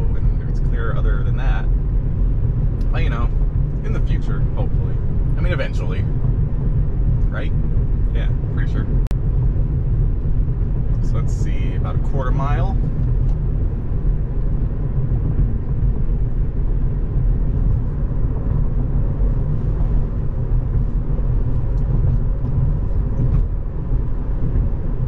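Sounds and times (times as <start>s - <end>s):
road and tyre rumble in car: 0.0s - 25.0s.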